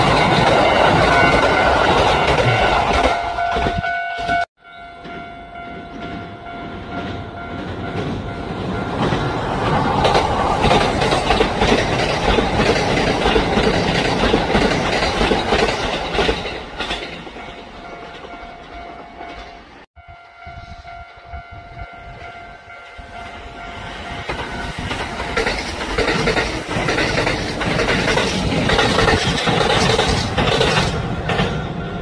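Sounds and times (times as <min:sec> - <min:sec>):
train wheels clacking over rail joints: 0:00.0 - 0:19.7, 0:24.2 - 0:32.0
level-crossing warning bell: 0:00.0 - 0:32.0.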